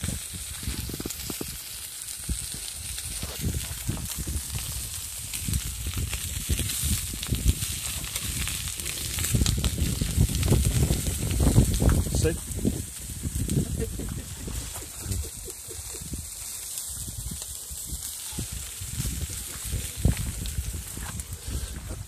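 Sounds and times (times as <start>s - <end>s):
sausages sizzling on hotplate: 0.0s - 22.0s
wind on microphone: 0.0s - 22.0s.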